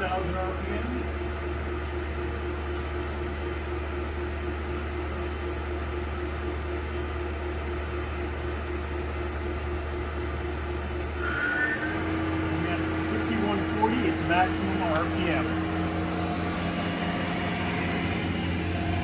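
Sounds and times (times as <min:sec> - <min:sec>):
mill spindle humming: 0:00.0 - 0:19.0.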